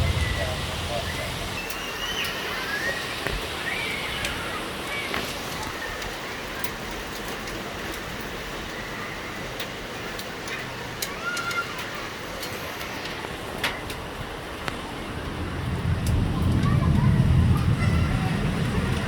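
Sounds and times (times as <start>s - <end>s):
hiss of falling rain: 0.0s - 19.0s
raindrops ticking on surfaces: 0.0s - 19.0s.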